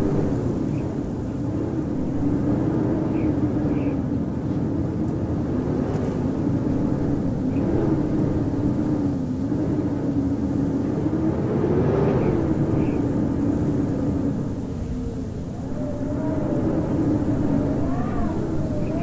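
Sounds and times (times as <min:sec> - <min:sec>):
howling wind: 0:00.0 - 0:19.0.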